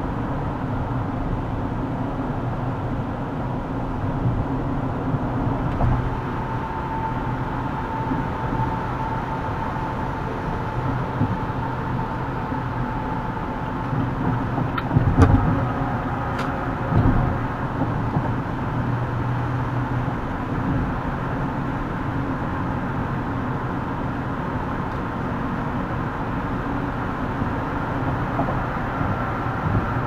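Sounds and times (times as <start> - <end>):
car road and tyre noise: 0.0 - 30.0.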